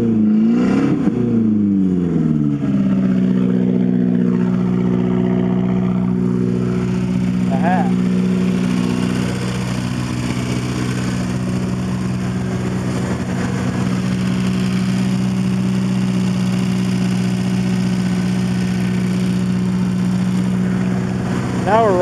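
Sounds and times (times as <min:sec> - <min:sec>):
car engine idling: 0:01.4 - 0:22.0.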